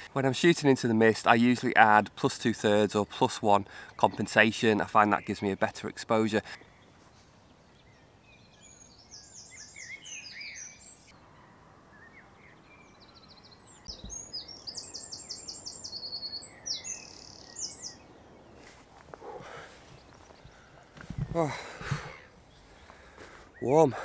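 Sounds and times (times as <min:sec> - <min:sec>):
faint outdoor hiss: 0:00.0 - 0:24.0
small songbirds singing: 0:01.0 - 0:24.0.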